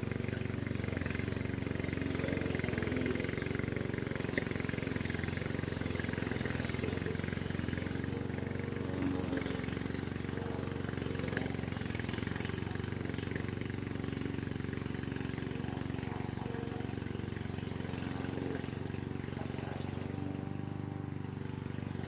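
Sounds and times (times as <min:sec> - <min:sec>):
mower engine cutting grass: 0:00.0 - 0:22.0.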